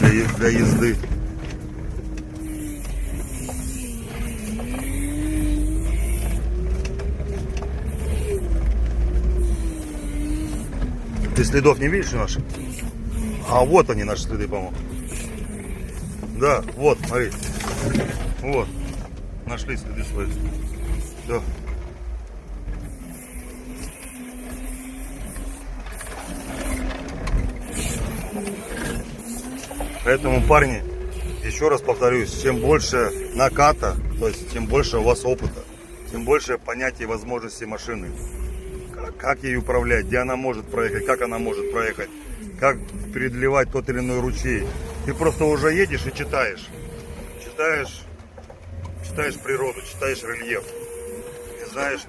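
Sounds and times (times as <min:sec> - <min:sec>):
heavy low rumble: 0:00.0 - 0:52.0
tracked vehicle engine under load: 0:00.0 - 0:52.0.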